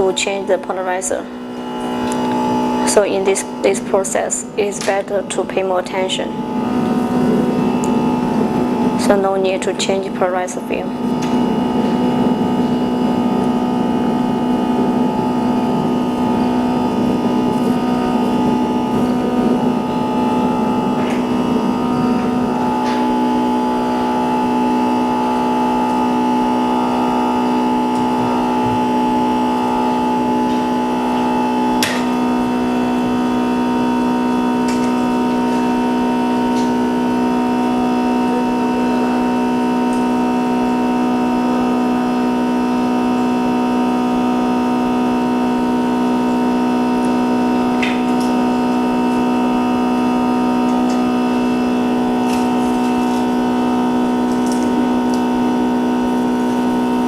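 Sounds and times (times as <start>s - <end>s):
steady machine hum: 0.0s - 57.0s.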